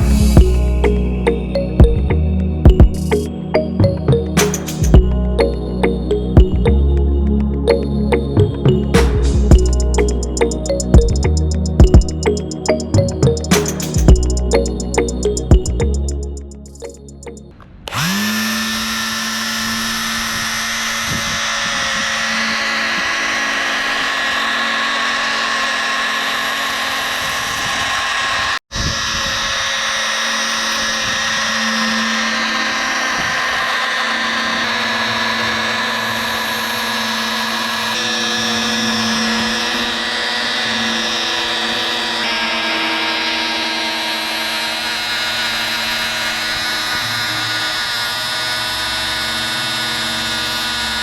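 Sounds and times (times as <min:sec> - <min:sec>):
small electric fan motors whining: 0:09.6 - 0:51.0.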